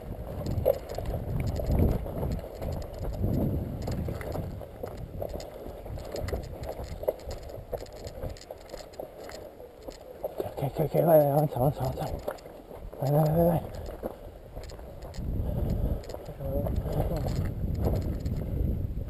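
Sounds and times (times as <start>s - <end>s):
footsteps through dry scrub: 0.0s - 18.5s.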